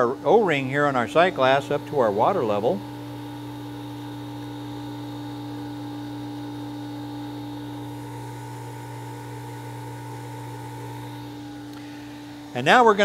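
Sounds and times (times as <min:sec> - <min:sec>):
water pump humming: 0:00.0 - 0:13.0.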